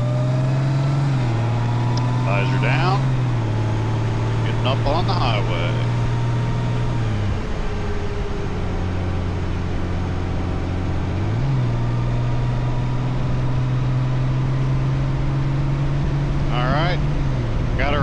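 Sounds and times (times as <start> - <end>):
motorcycle engine accelerating: 0.0 - 18.0
wind and road noise: 0.0 - 18.0.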